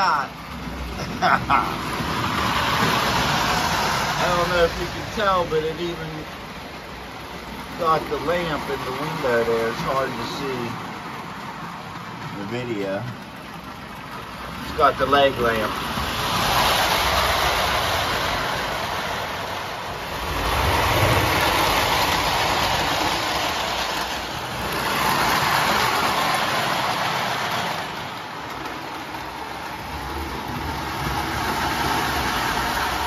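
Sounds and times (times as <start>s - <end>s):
model train rumbling and rattling: 0.0s - 33.0s.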